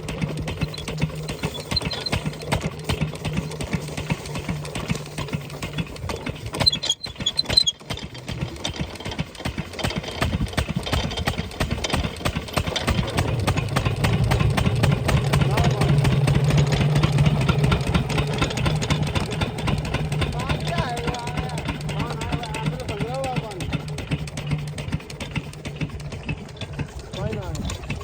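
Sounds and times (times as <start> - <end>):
diesel engine knocking: 0.0 - 28.0.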